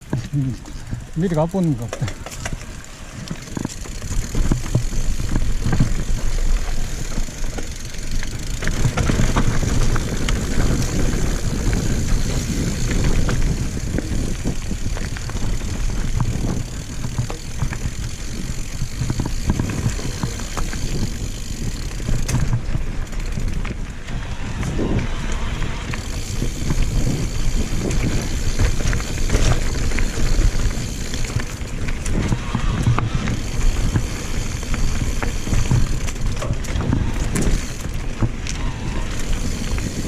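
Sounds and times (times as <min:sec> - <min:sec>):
bike rattling and clicking: 0:00.0 - 0:40.0
bike tyres rumbling on dirt: 0:00.0 - 0:40.0.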